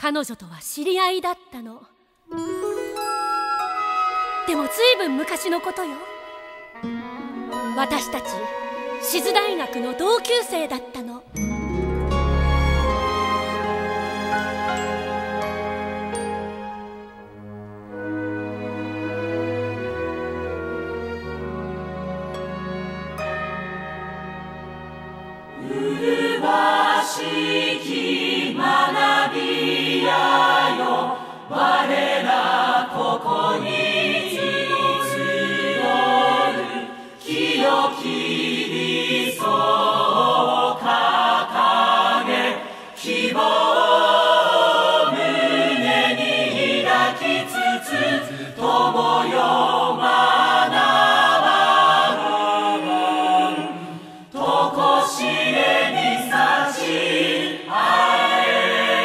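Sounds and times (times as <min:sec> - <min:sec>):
chorus singing a slow anthem: 0:11.3 - 0:59.0.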